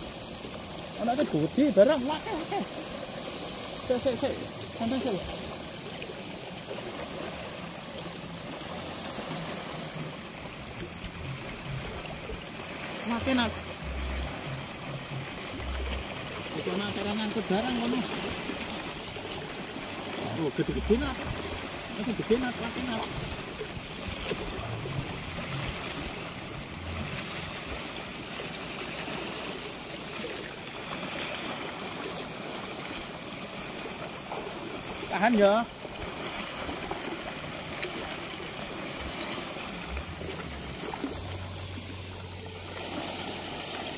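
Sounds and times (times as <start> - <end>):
river water splashing on concrete: 0.0 - 43.9
small waves breaking: 0.0 - 43.9.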